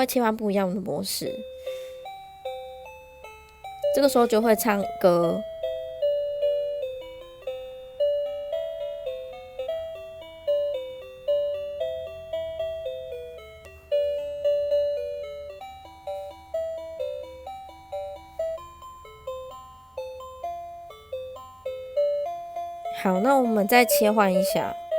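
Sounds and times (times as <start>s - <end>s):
toy telephone electronic melody: 1.1s - 24.9s.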